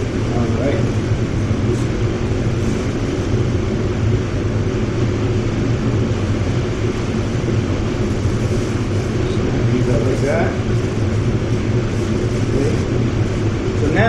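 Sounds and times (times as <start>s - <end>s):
low hum: 0.0s - 14.0s
ventilation fans rushing air: 0.0s - 14.0s.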